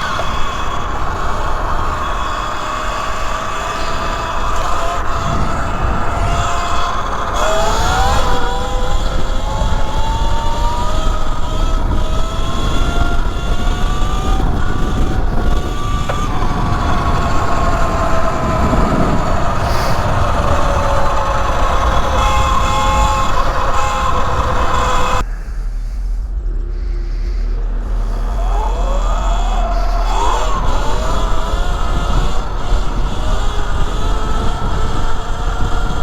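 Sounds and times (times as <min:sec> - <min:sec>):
electric motor whining: 0:00.0 - 0:25.3, 0:27.4 - 0:36.0
wind and road rumble: 0:00.0 - 0:36.0.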